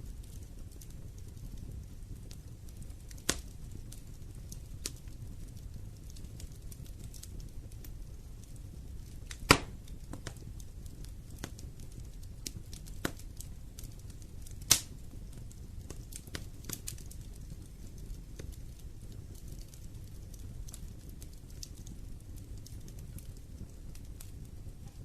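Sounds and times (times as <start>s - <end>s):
loud fire pops: 0.0s - 25.0s
wood fire crackling: 0.0s - 25.0s.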